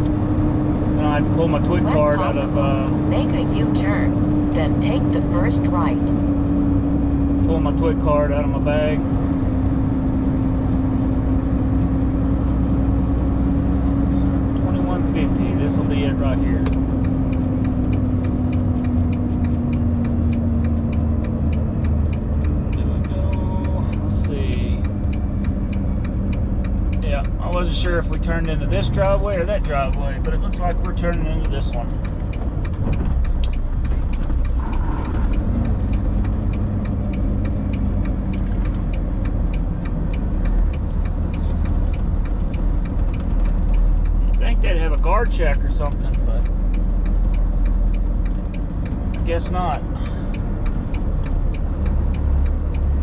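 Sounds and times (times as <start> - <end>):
diesel engine rumbling: 0.0 - 53.0
turn signal clicking: 0.0 - 53.0.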